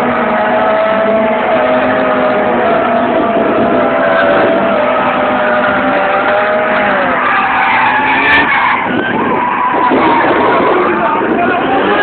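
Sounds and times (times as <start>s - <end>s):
car engine running hard: 0.0s - 12.0s
car tyres squealing: 0.0s - 12.0s.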